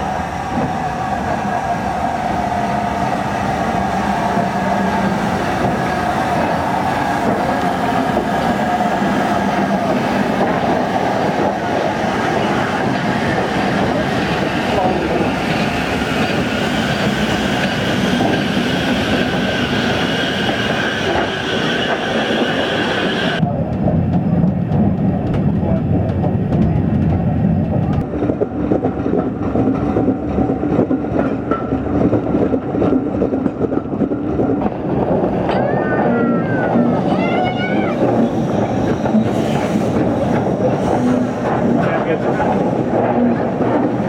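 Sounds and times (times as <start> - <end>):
steam train running on rails: 0.0 - 44.0.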